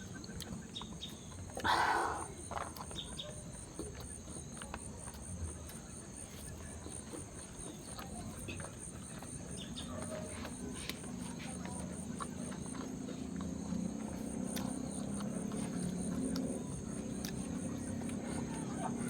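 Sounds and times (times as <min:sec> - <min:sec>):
crickets trilling: 0:00.0 - 0:19.0
low background hum: 0:00.0 - 0:19.0.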